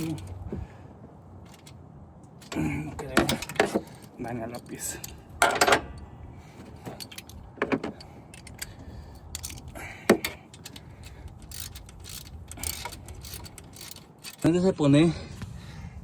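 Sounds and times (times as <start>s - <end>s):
metal tools clinking: 1.4s - 14.7s.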